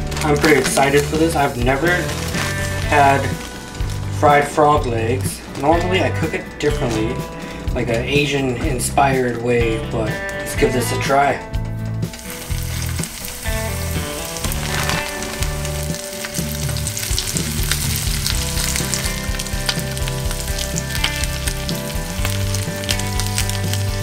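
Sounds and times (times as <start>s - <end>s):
hot oil sizzling and crackling: 0.0s - 7.7s, 11.7s - 24.0s.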